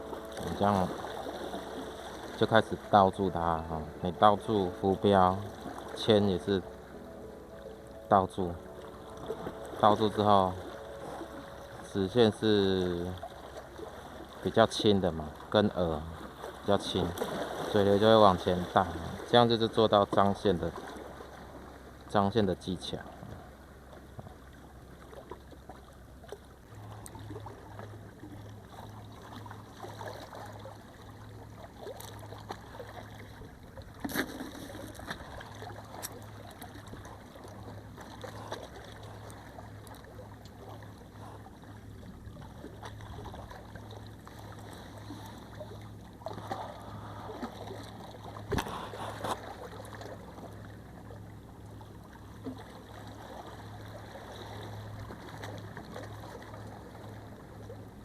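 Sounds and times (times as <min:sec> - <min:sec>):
sea water lapping on rocks: 0:00.0 - 0:06.8, 0:08.3 - 0:21.8, 0:22.6 - 0:57.8.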